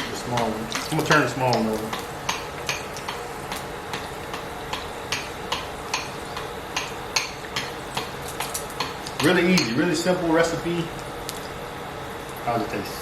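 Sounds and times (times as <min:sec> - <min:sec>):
deep-frying sizzle with pops: 0:00.0 - 0:13.0.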